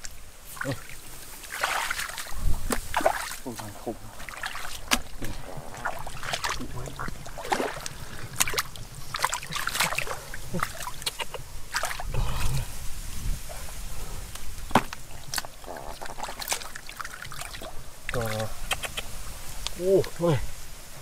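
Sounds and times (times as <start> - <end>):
hands splashing in muddy water: 0.0 - 12.6, 14.6 - 18.9.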